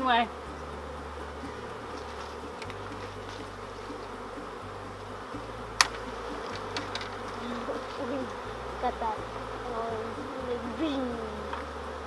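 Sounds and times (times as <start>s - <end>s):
bee swarm buzzing: 0.0s - 12.0s
faint ticks: 0.0s - 12.0s.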